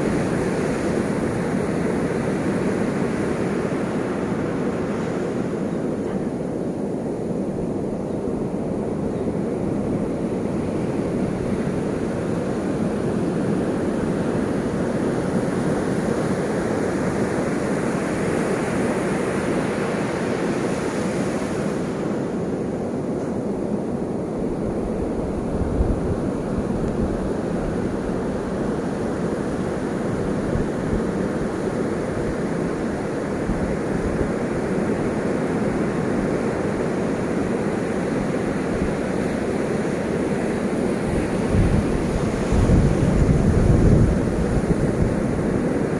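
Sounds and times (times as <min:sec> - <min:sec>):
ocean surf washing: 0:00.0 - 0:45.9.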